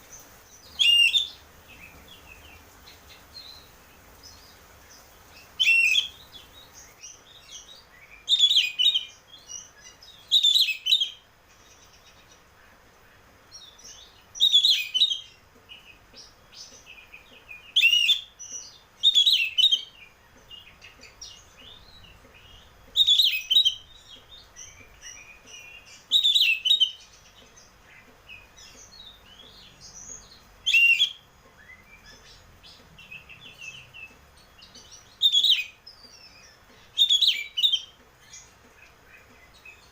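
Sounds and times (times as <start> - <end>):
soft bird twittering: 0.0 - 12.8, 13.6 - 39.9
bird singing loud phrases: 0.0 - 39.9.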